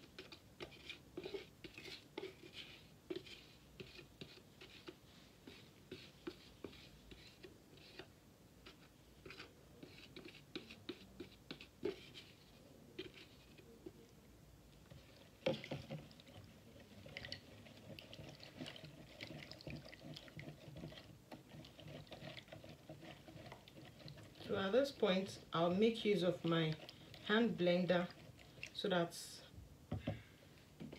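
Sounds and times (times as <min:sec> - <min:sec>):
spatula scraping plastic jug: 0:00.0 - 0:13.7, 0:14.9 - 0:28.8
stirring thick lotion: 0:00.0 - 0:29.3.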